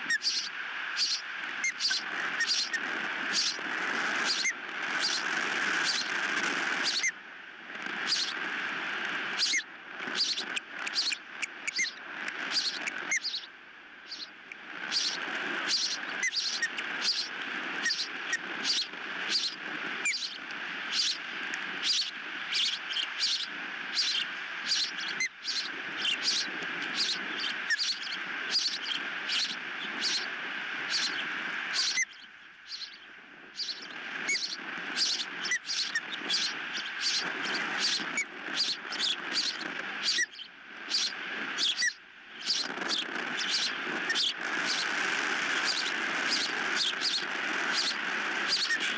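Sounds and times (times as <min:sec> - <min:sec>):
ospreys chirping: 0:00.0 - 0:07.2, 0:07.8 - 0:48.9.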